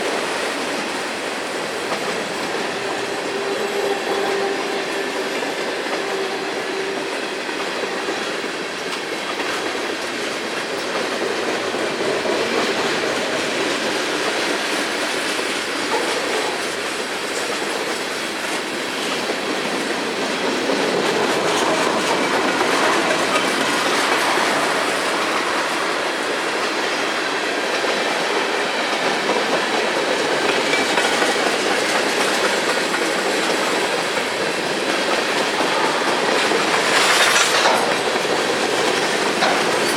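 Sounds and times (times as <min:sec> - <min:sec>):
freight train rolling past: 0:00.0 - 0:39.9
wheels clicking over rail joints: 0:00.5 - 0:39.9.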